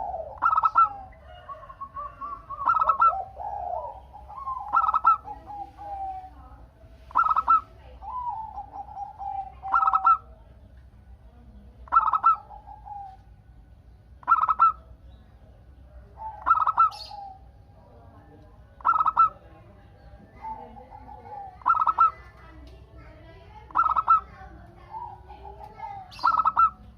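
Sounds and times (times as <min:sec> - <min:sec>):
dove cooing: 0:00.0 - 0:10.5, 0:11.8 - 0:13.5, 0:14.2 - 0:15.0, 0:15.9 - 0:26.9.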